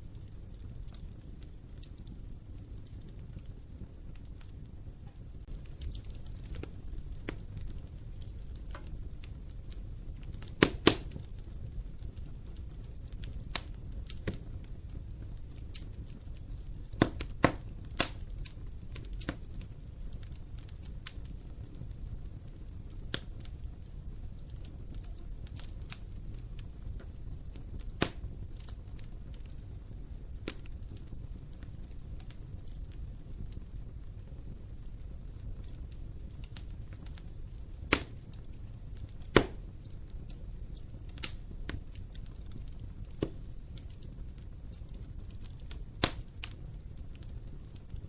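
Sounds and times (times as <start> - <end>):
fire rumbling: 0.0 - 48.0
wood fire crackling and popping: 0.0 - 48.0.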